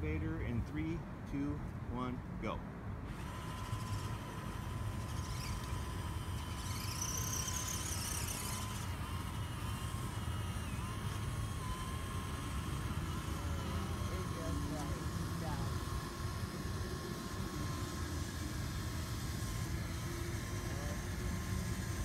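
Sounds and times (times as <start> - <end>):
small electric motors whining: 3.0 - 22.0.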